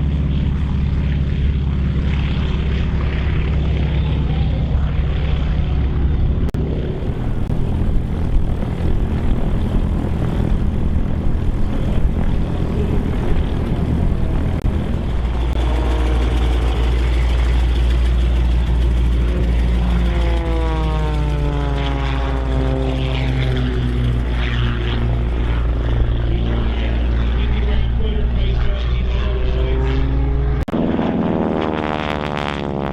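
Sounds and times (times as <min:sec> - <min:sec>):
propeller plane engine drone: 0:00.0 - 0:32.9
propeller plane passing by: 0:00.0 - 0:32.9.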